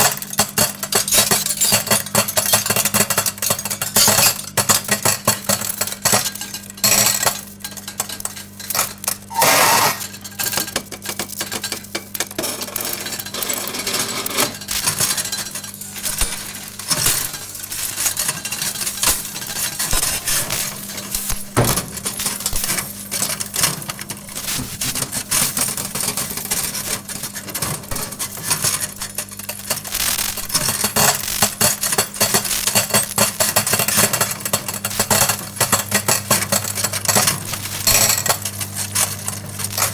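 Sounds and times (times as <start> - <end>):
metal crackling in microwave: 0.0 - 39.9
microwave oven hum: 0.0 - 39.9.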